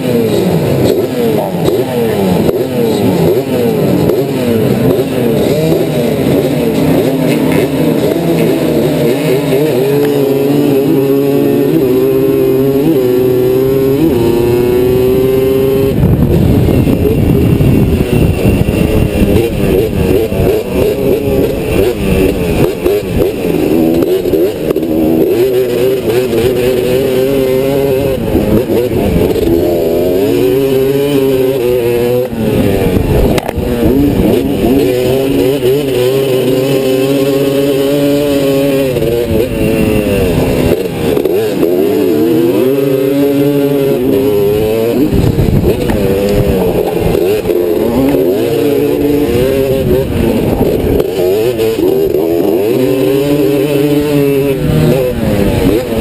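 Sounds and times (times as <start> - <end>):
racing engine revving: 0.0 - 56.0.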